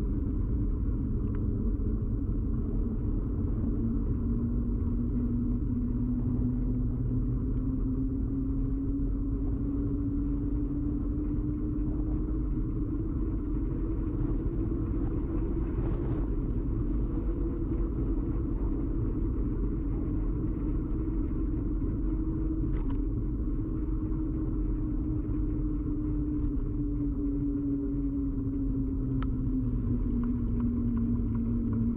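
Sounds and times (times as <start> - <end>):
bicycle ride rumble: 0.0 - 31.9.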